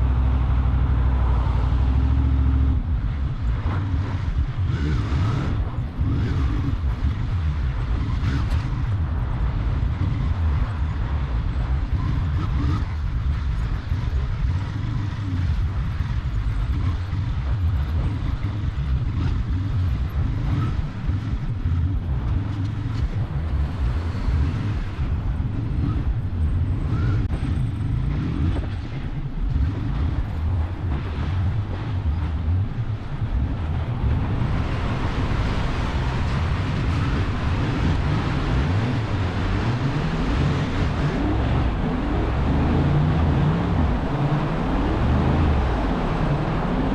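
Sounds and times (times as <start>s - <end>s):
motorcycle engine and road rumble: 0.0s - 46.9s
wind buffeting microphone: 2.7s - 46.9s.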